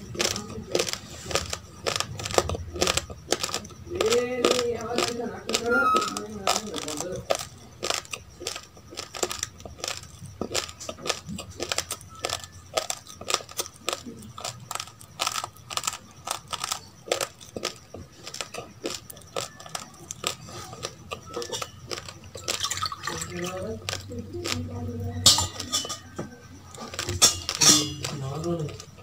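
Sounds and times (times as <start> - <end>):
crunching raw rice: 0.0 - 29.0.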